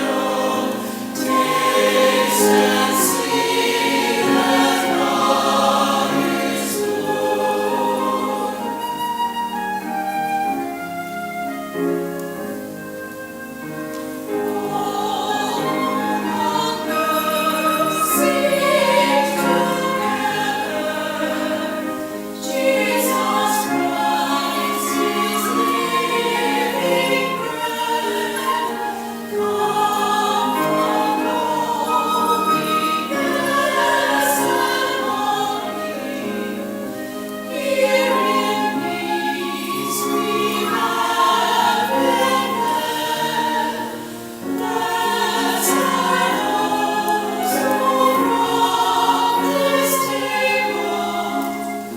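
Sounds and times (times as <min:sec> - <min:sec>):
choir singing a hymn: 0:00.0 - 0:51.9.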